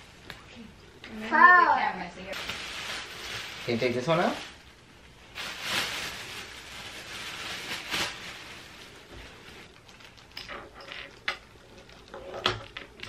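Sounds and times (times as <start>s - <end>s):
plastic wrap crinkling: 2.2s - 13.0s.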